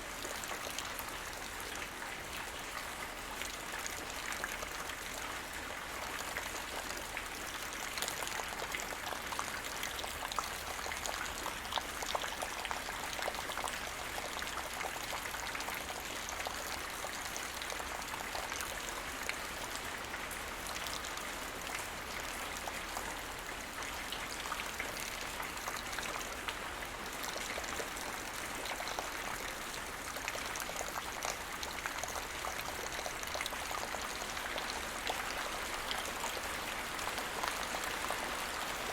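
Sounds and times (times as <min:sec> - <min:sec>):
light rain pattering: 0:00.0 - 0:38.9.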